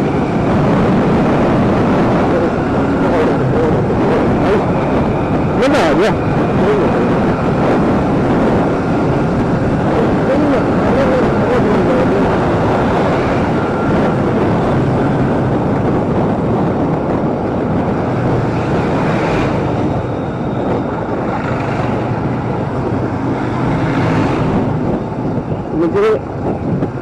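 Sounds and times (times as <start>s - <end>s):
motorcycle engine drone: 0.0s - 27.0s
road noise: 0.0s - 27.0s
rushing wind: 0.0s - 27.0s.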